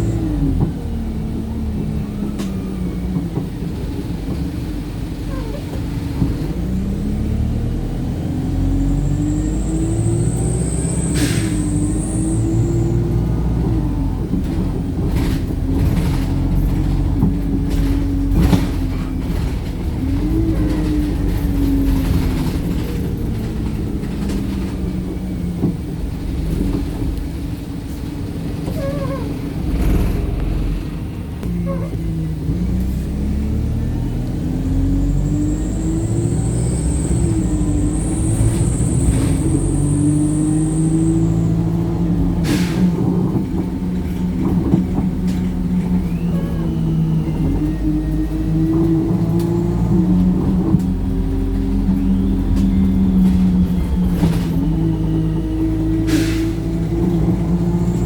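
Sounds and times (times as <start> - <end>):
bus engine and driveline whine: 0.0 - 58.0
road rumble: 0.0 - 58.0.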